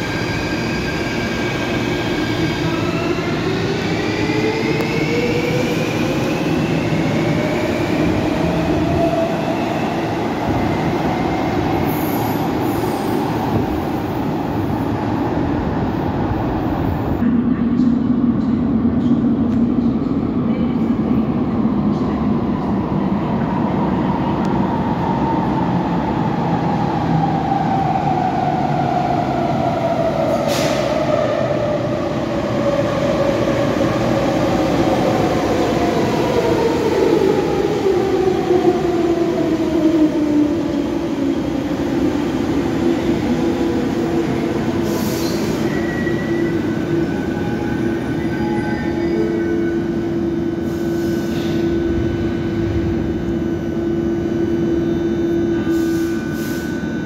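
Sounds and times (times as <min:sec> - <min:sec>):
metro train braking: 0:00.0 - 0:17.2, 0:19.8 - 0:57.0.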